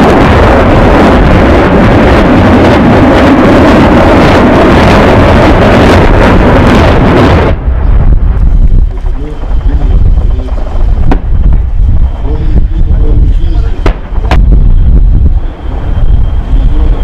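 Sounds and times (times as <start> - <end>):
rockets firing roar: 0.0 - 17.0.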